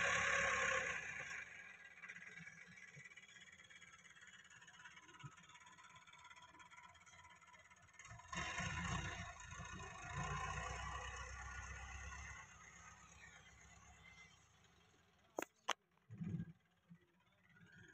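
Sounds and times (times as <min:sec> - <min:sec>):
tractor engine: 0:00.0 - 0:16.8.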